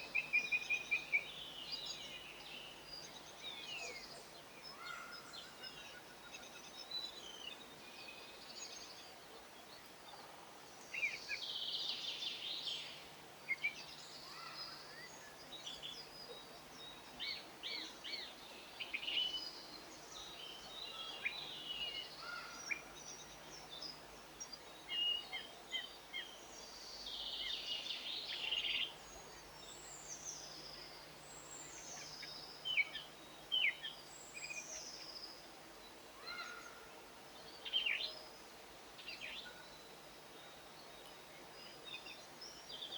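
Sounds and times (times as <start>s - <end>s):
songbirds chirping and twittering: 0.0s - 42.9s.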